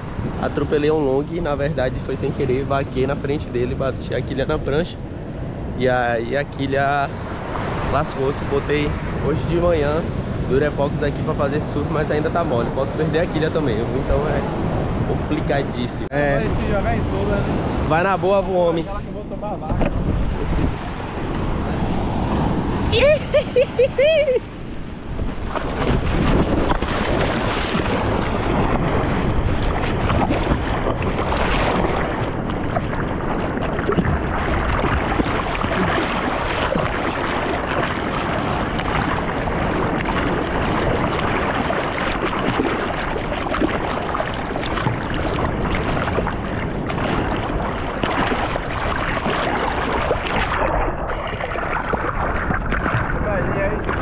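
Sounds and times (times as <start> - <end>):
wind buffeting microphone: 0.0 - 54.0
sea water sloshing and splashing: 6.5 - 19.0, 19.6 - 54.0.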